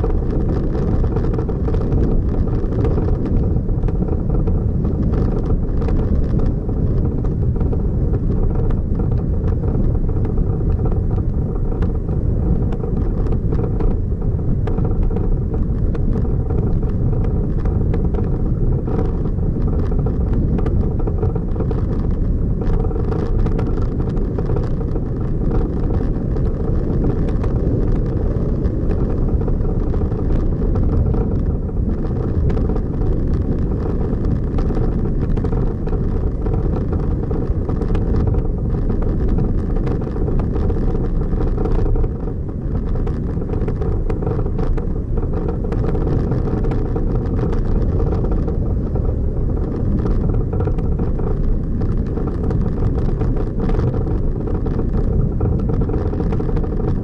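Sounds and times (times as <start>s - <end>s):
light clicks and rattles: 0.0s - 57.0s
vehicle engine and tyres rumbling: 0.0s - 57.0s.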